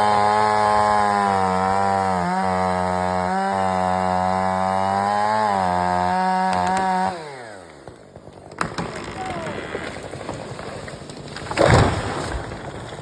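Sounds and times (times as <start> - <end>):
chainsaw engine running: 0.0 - 11.2.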